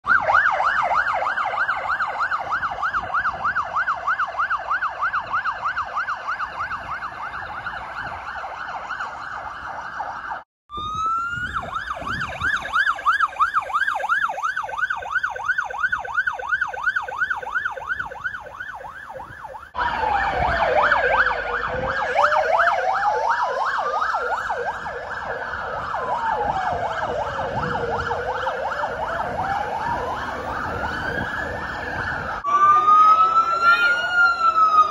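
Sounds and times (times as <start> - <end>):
ambulance siren yelp: 0.0 - 34.9
siren slow wail: 0.0 - 34.9.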